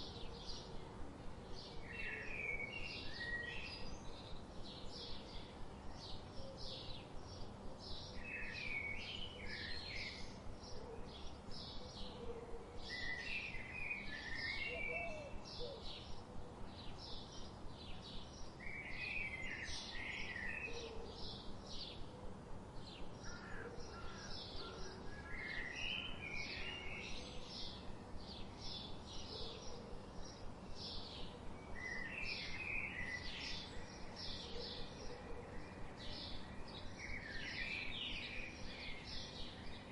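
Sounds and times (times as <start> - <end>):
low background hiss: 0.0 - 39.9.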